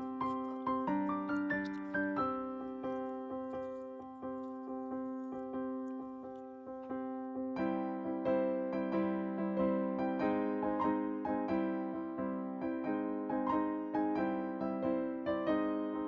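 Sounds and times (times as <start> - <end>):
gentle keyboard melody: 0.0 - 16.0.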